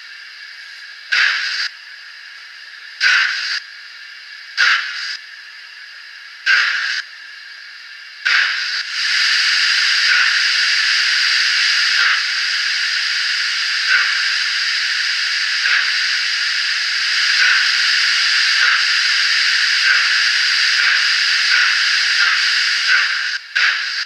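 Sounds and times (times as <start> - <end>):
steam hiss from small speaker: 0.0 - 24.0.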